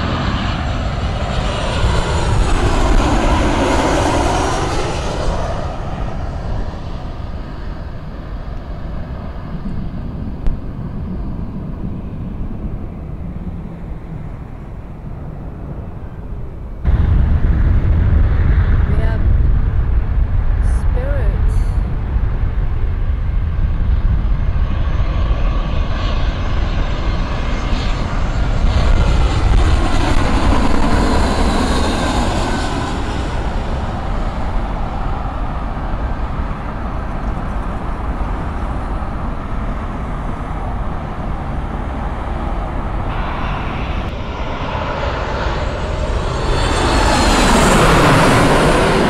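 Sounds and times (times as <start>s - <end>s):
jet airliner passing overhead: 0.0s - 49.0s
second jet approaching: 0.0s - 49.0s.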